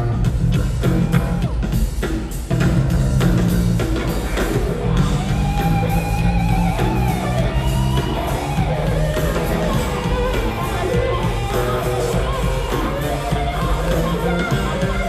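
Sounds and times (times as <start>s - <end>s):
bending electric guitar lead: 0.0s - 15.0s
rock band playing: 0.0s - 15.0s.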